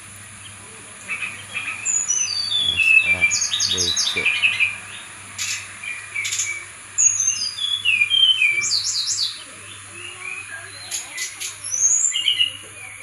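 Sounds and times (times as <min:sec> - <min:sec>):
steady high hiss: 0:00.0 - 0:13.0
bird singing whistled notes: 0:01.4 - 0:13.0.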